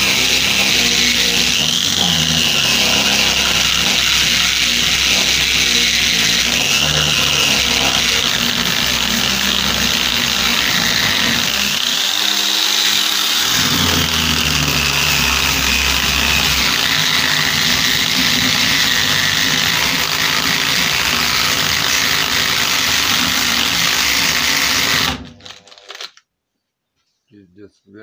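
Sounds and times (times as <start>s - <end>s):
angle grinder sanding paint: 0.0s - 25.2s.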